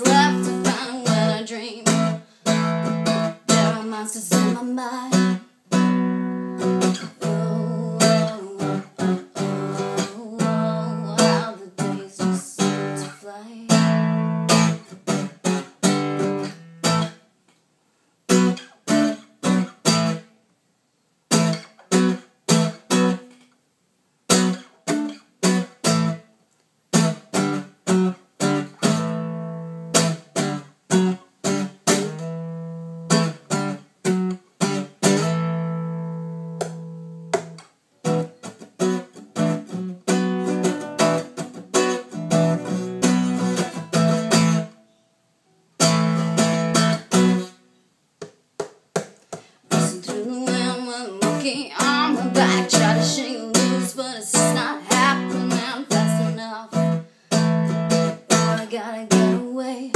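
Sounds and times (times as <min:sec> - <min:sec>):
acoustic guitar strumming: 0:00.0 - 0:17.3, 0:18.3 - 0:20.4, 0:21.3 - 0:23.5, 0:24.3 - 0:26.3, 0:26.9 - 0:45.1, 0:45.8 - 0:59.9.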